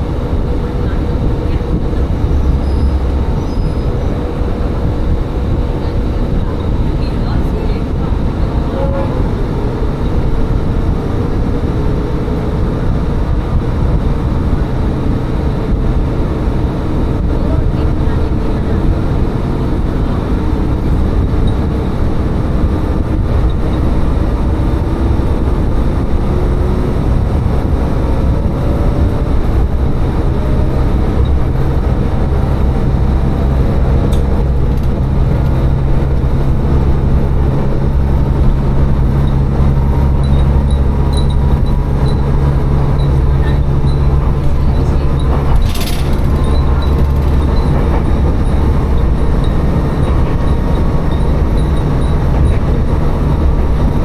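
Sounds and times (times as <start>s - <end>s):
diesel railcar engine drone: 0.0s - 54.0s
wheel and rail noise: 0.0s - 54.0s.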